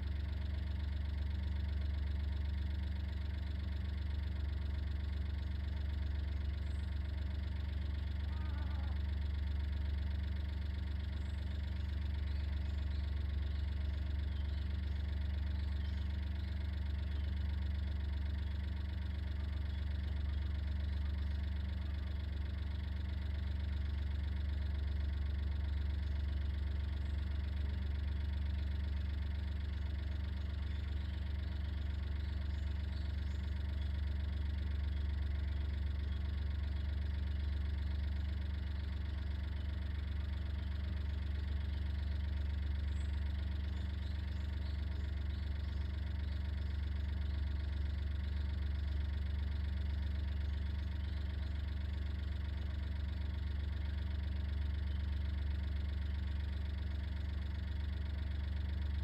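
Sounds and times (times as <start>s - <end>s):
engine idling hum: 0.0s - 59.0s.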